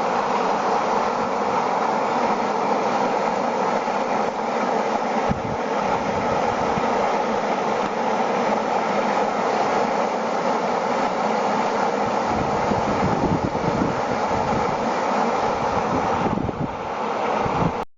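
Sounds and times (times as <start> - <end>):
steady rushing noise: 0.0 - 17.8.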